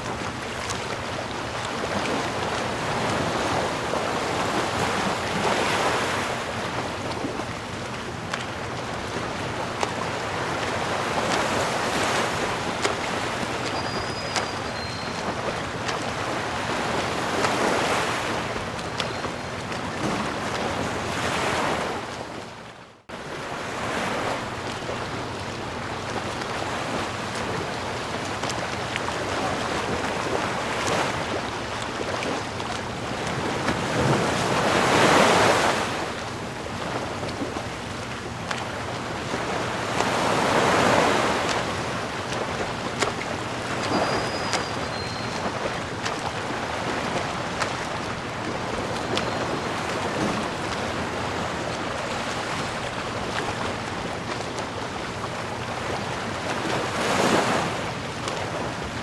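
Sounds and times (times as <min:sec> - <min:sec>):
sea waves washing in: 0:00.0 - 0:59.0.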